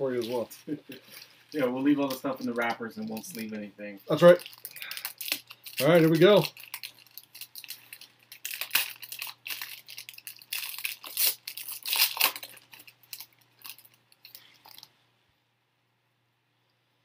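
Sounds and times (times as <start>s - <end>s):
foil wrapper tearing and crinkling: 1.0s - 14.9s.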